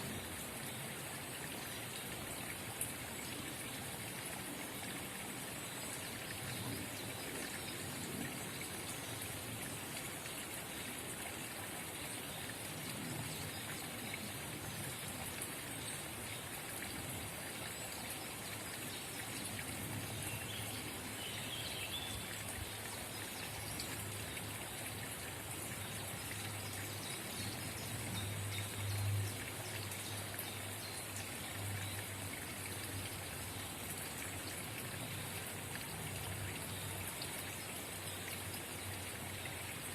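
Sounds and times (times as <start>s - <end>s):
spring water trickling: 0.0s - 39.9s.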